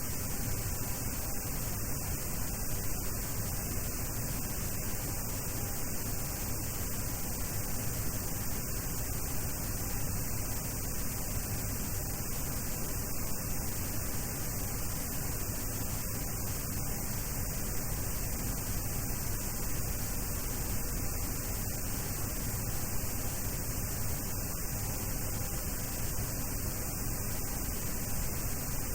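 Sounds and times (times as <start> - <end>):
faint hum: 0.0 - 28.9
static hiss: 0.0 - 28.9.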